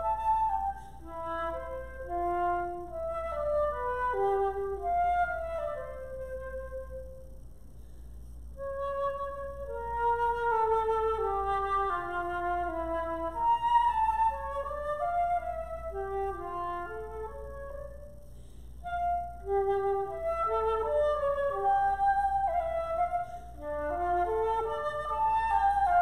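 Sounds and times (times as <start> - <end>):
solo woodwind melody: 0.0 - 7.5, 8.5 - 26.0.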